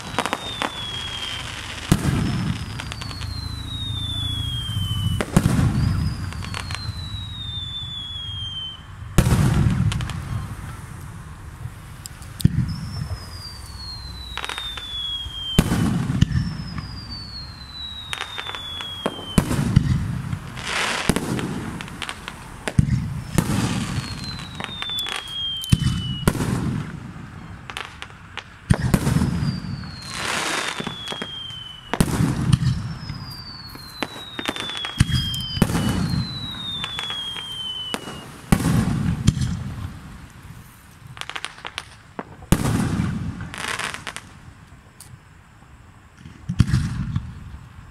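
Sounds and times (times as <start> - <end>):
firework bangs: 0.0 - 44.6, 46.1 - 47.6
falling firework whistles: 0.0 - 47.9.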